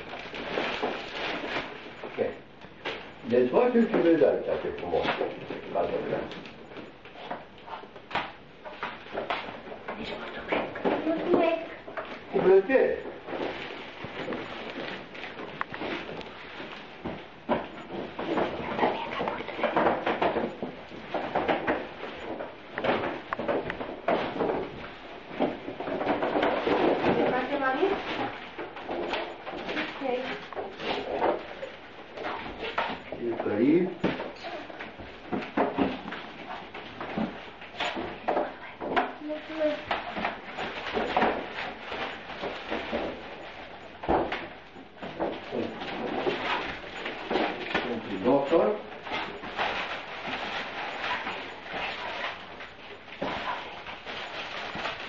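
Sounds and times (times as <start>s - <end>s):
paper rustling: 0.0s - 55.0s.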